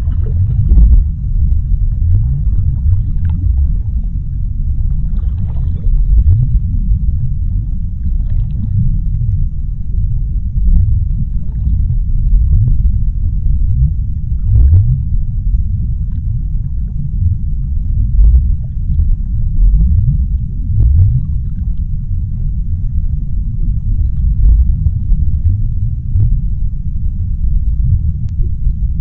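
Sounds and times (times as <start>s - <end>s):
faint crackles: 0.0s - 26.7s
deep underwater rumble: 0.0s - 29.0s.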